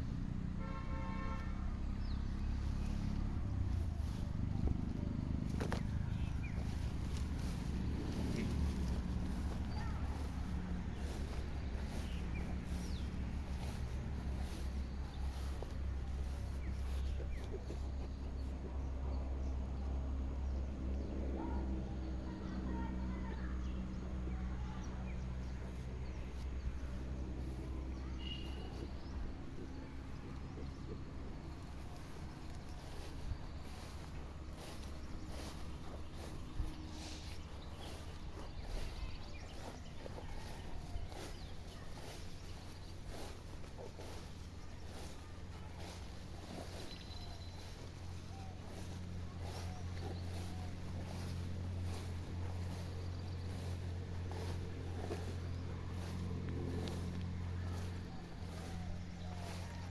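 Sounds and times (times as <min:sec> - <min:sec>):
goats crunching fodder: 0:00.0 - 0:21.8, 0:23.7 - 0:59.9
steady low rumble: 0:01.8 - 0:21.5, 0:28.8 - 0:59.9.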